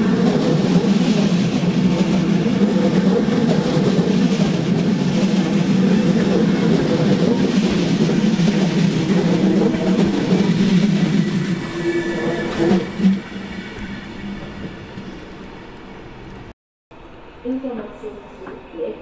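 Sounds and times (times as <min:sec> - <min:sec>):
train running with low drone: 0:00.0 - 0:19.0.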